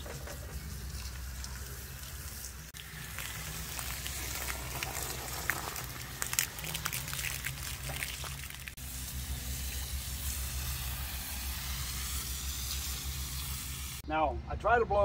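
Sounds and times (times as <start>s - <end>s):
garden hose spraying water: 0.0s - 14.0s
water spattering and trickling: 0.0s - 14.0s.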